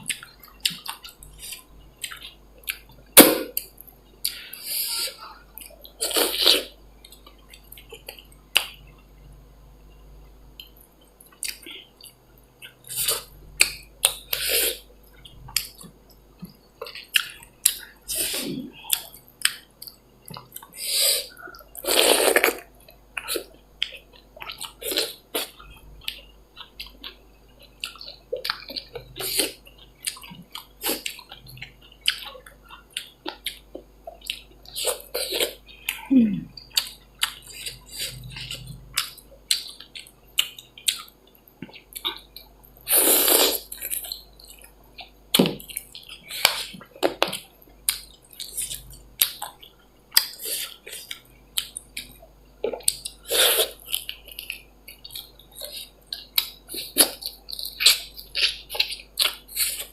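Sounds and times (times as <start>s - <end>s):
person chewing and mouth smacking: 0.0s - 9.0s, 10.6s - 59.9s.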